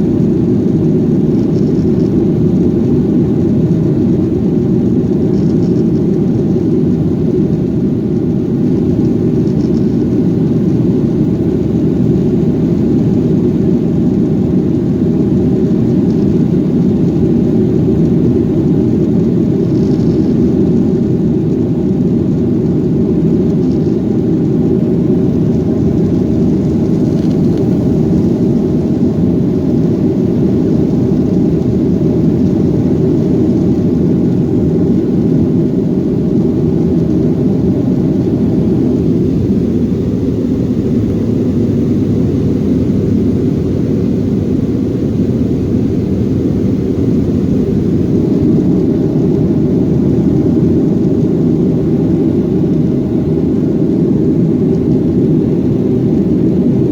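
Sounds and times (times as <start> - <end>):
jet engines rumbling in cabin: 0.0 - 56.9.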